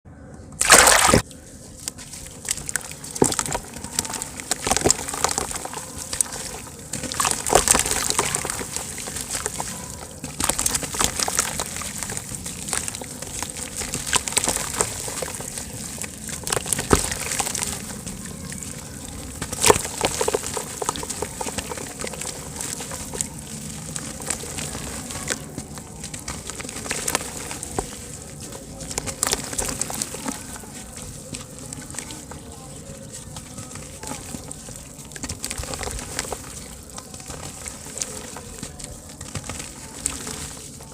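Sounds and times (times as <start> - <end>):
dirt crumbling in water: 0.6 - 40.9.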